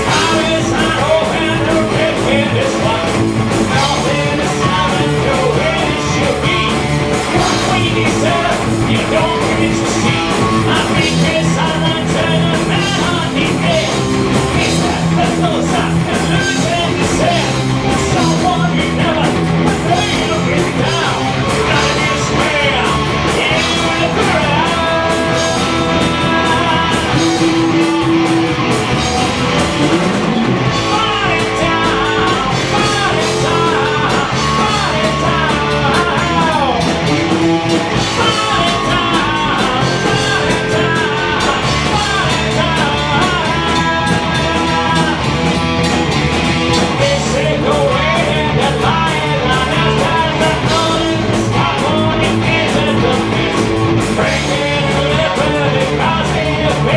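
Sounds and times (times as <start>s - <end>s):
bass guitar: 0.0s - 56.9s
drums: 0.0s - 56.9s
electric guitars: 0.0s - 56.9s
person singing: 0.0s - 56.9s.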